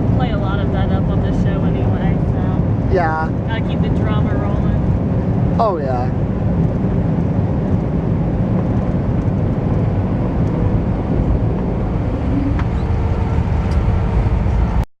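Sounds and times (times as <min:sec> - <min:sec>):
airliner cabin engine rumble: 0:00.0 - 0:14.9.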